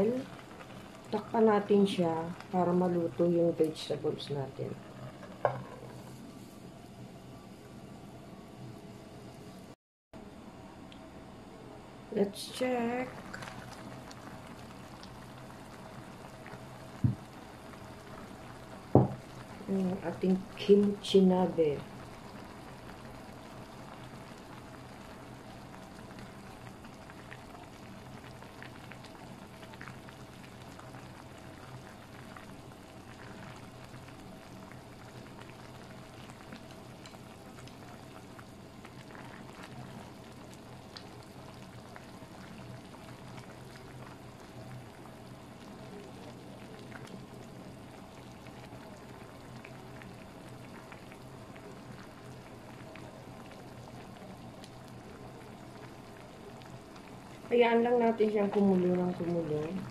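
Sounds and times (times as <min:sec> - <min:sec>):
broth boiling and bubbling: 0:00.0 - 0:59.9
low steady hum: 0:00.0 - 0:59.9.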